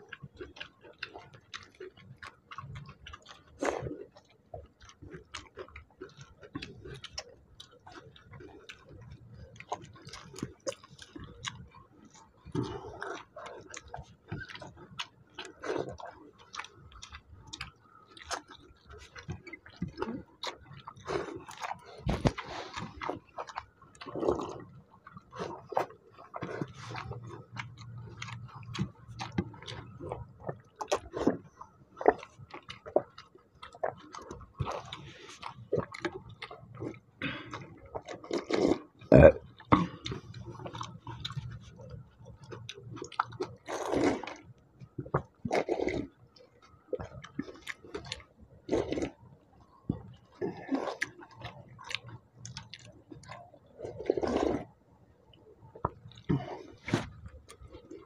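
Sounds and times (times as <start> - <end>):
slurping water: 0.0 - 49.2, 49.8 - 54.8, 55.7 - 58.0
chewing: 0.0 - 58.0.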